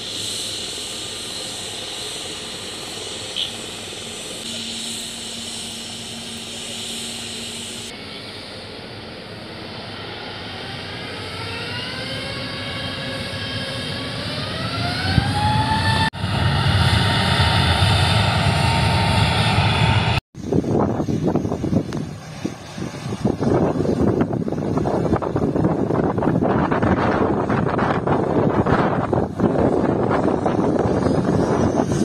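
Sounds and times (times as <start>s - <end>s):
jet engine whine rising: 0.0s - 32.0s
loud low engine rumble: 0.0s - 32.0s.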